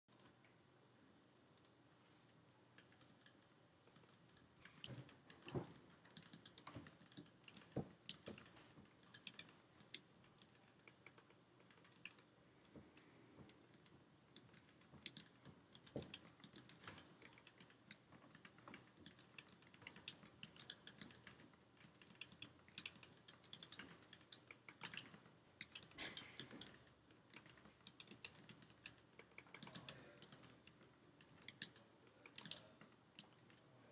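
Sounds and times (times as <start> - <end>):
mechanical keyboard typing: 2.8 - 12.3, 13.7 - 33.6.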